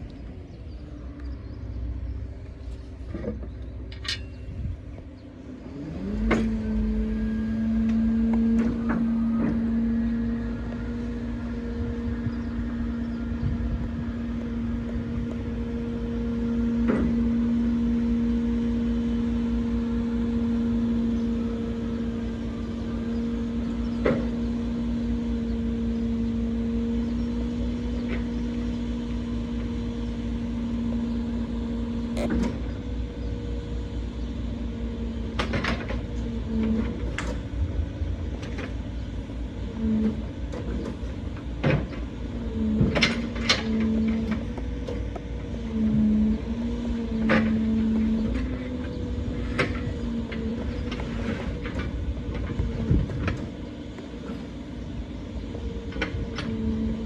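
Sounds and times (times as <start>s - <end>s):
hydraulic pump hum: 0.0s - 57.0s
truck engine rumble: 0.0s - 57.0s.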